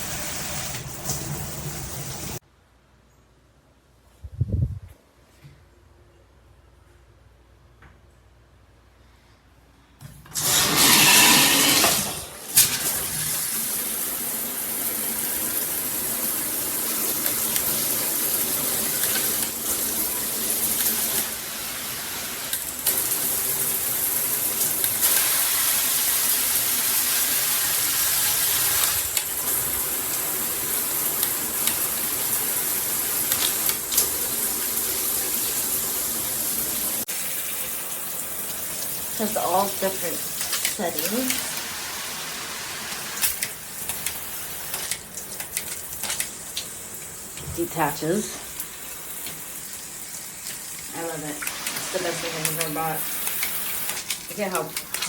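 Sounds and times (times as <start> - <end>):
shower head spraying water: 10.4 - 55.0.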